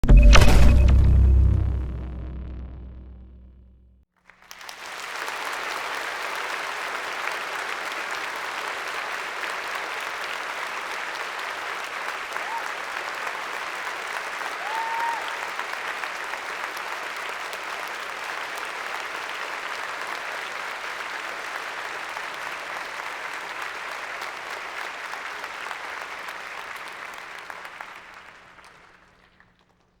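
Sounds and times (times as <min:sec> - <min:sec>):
audience applauding: 0:04.2 - 0:30.0.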